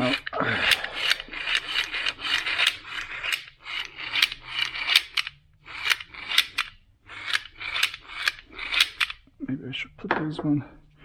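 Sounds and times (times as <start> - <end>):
throttle actuator clicking: 0.0 - 9.2.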